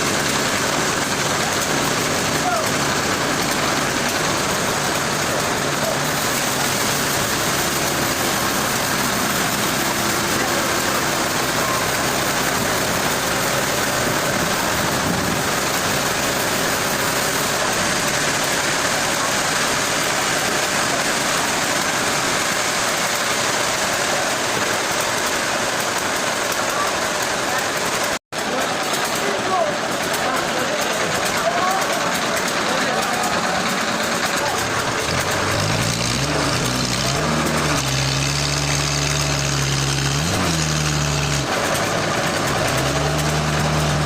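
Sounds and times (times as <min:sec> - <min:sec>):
heavy engine running: 0:00.0 - 0:44.0
machinery noise: 0:00.0 - 0:44.0.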